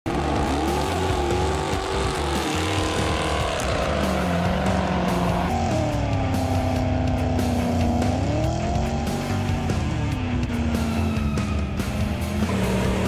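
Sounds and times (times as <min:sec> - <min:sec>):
car engine revving: 0:00.1 - 0:13.0.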